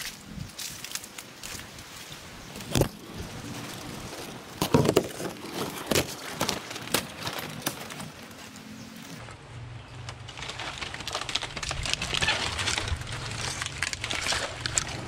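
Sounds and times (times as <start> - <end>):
footsteps crunching dry palm fronds: 0.0 - 15.0.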